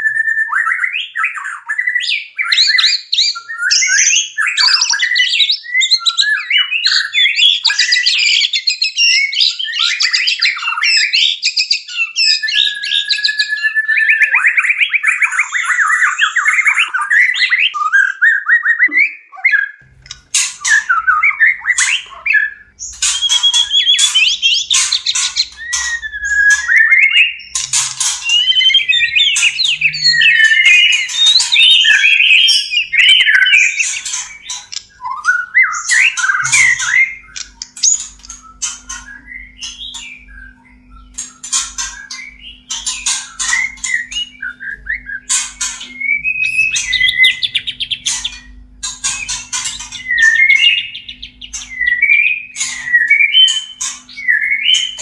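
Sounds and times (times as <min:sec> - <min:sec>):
bird song with whistles and trills: 0:00.0 - 0:55.0.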